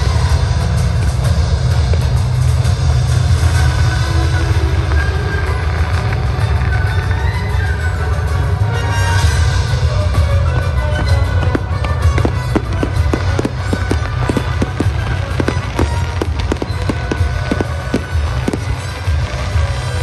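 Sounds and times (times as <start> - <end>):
fireworks bangs and crackles: 0.0 - 20.0
loud music with heavy bass: 0.0 - 20.0.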